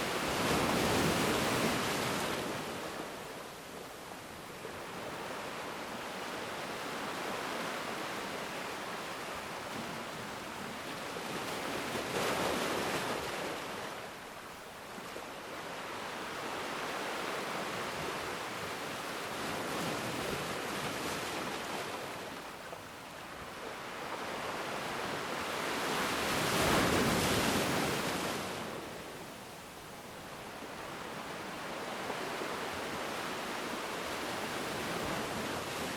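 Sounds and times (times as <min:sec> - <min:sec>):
ocean waves washing on sand: 0:00.0 - 0:35.9.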